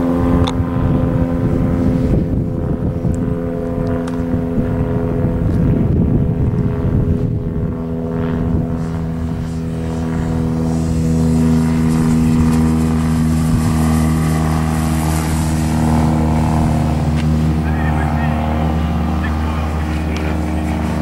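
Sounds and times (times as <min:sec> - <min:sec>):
model airplane engine drone: 0:00.0 - 0:21.0.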